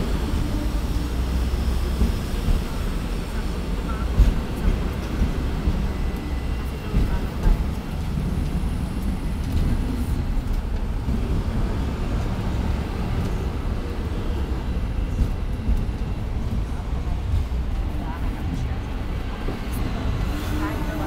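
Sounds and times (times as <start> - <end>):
tram rumbling on tracks: 0.0 - 21.0.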